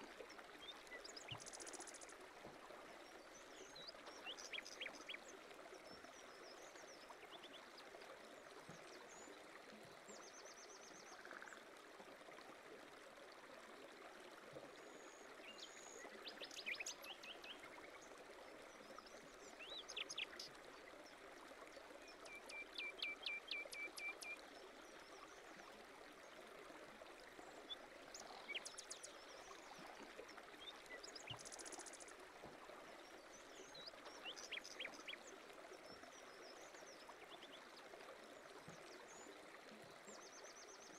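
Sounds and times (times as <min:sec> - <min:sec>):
faint flowing stream: 0:00.0 - 0:40.9.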